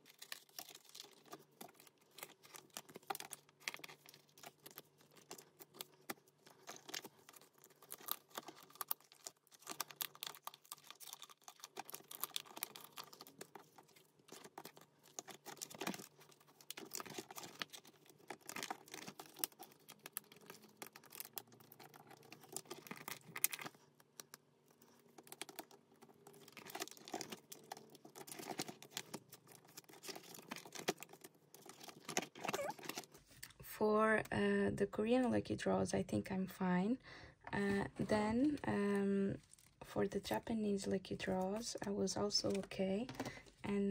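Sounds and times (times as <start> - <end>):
plastic sleeves crinkling: 0.0 - 33.6, 37.5 - 43.7.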